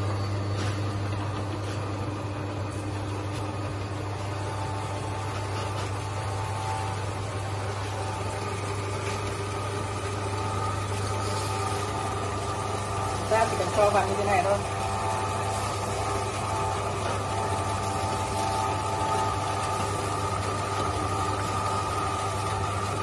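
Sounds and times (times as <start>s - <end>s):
electric meat grinder running: 0.0s - 23.0s.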